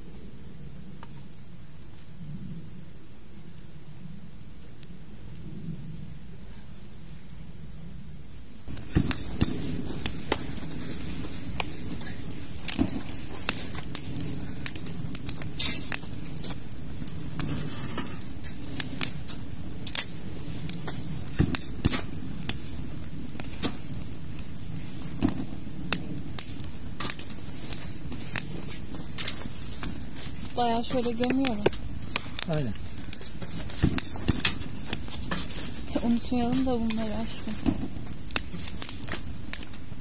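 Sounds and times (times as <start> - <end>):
campfire crackling: 0.0 - 40.0.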